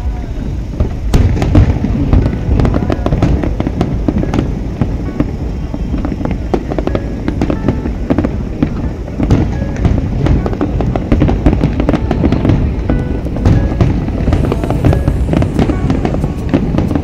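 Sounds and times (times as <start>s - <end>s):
fireworks bursting: 0.0s - 17.0s
low rumble: 0.0s - 17.0s.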